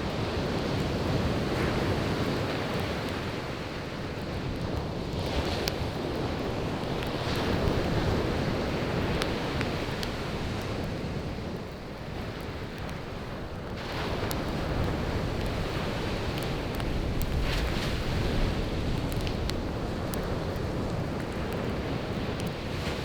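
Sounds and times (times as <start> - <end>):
campfire crackling: 0.0 - 23.0
sea waves washing onto beach: 0.0 - 23.0.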